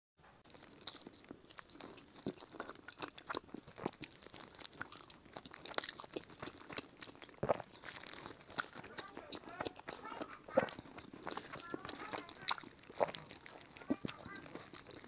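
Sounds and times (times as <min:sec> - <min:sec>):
chewing with wet mouth clicks: 0:00.4 - 0:15.0.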